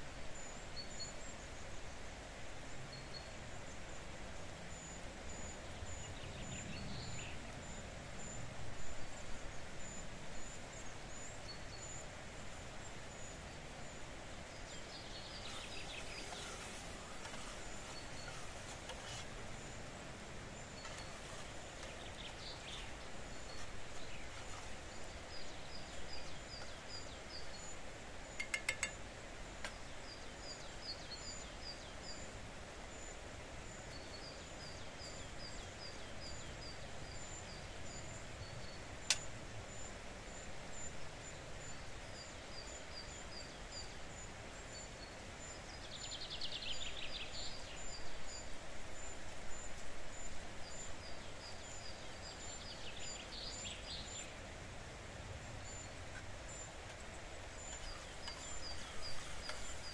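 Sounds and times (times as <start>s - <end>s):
small birds singing: 0.0s - 59.9s.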